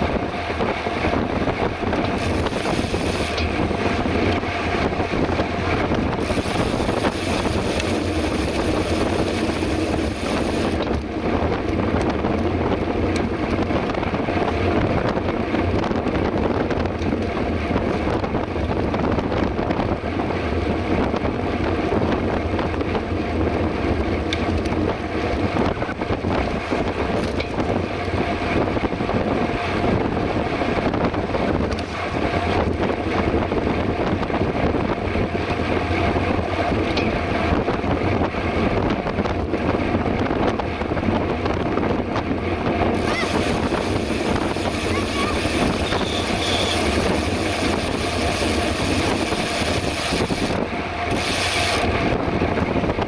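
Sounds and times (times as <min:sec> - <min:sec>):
bike tyre and drivetrain noise: 0:00.0 - 0:53.0
wind rushing over microphone: 0:00.0 - 0:53.0.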